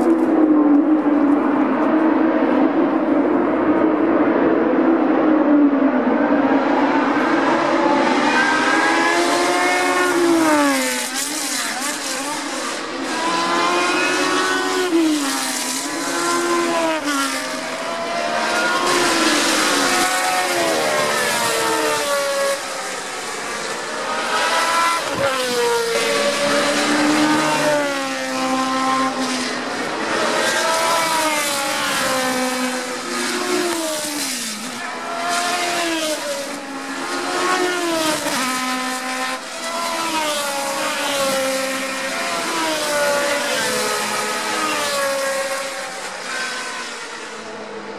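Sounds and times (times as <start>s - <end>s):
race cars passing at full throttle: 0.0s - 47.9s.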